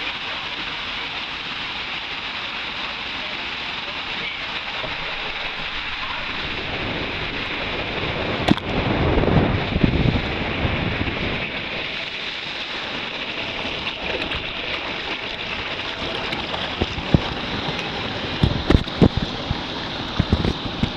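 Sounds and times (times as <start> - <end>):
water rushing down slide: 0.0 - 20.9.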